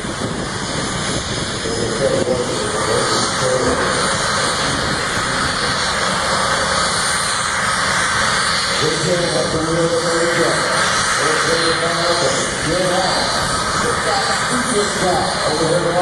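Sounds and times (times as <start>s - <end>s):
jet turbine engine roaring: 0.0s - 16.0s.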